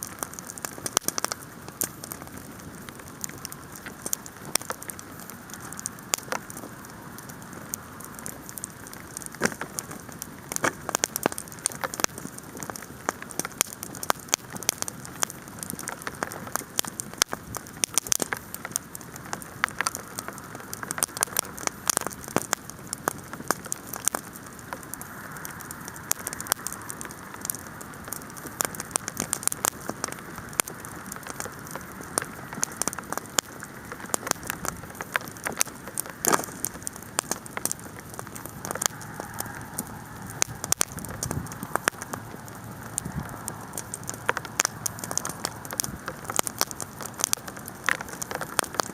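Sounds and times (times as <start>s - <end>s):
bonfire crackling and popping: 0.0s - 48.9s
hail falling: 0.1s - 48.9s.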